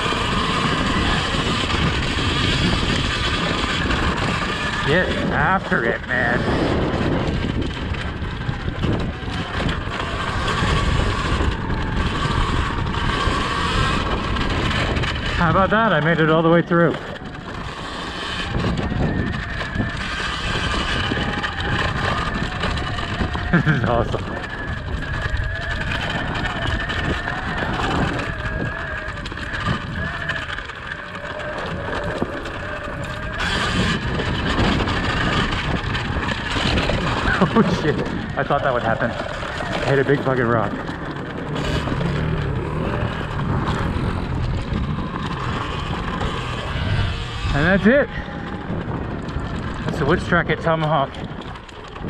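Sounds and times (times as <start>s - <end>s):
electric motor whine: 0.0s - 50.1s
chain and suspension rattle: 0.0s - 52.0s
tyres rumbling on dirt trail: 0.0s - 52.0s
wheels knocking over rocks: 0.0s - 52.0s
wind buffeting microphone: 0.0s - 52.0s.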